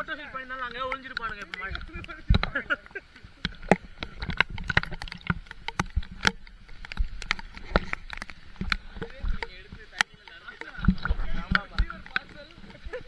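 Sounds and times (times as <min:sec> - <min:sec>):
water splashing: 0:00.0 - 0:13.0
sharp taps and clicks: 0:00.5 - 0:02.7, 0:03.4 - 0:13.0.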